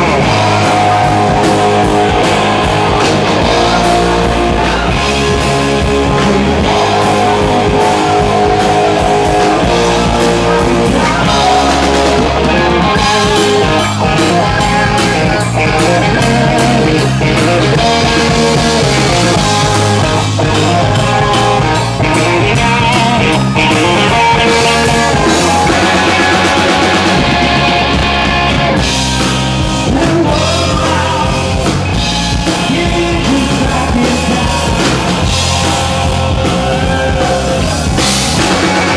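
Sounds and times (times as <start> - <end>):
vocals: 0.0 - 27.7, 28.8 - 38.9
drum kit: 0.0 - 38.9
electric guitar: 0.0 - 38.9.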